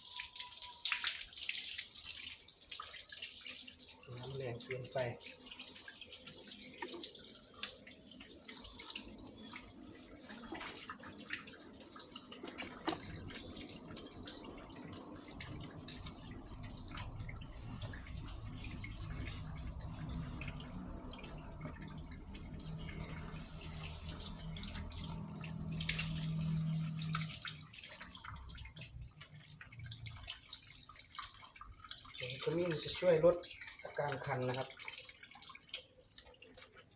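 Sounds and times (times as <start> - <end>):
water running from tap: 0.0 - 36.9.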